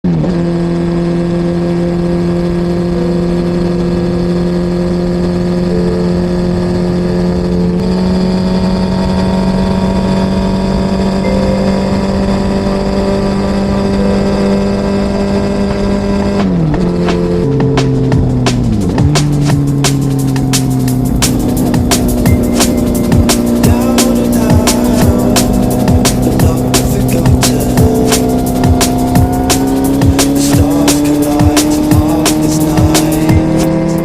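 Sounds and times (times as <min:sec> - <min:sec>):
engine at high revs: 0:00.0 - 0:34.0.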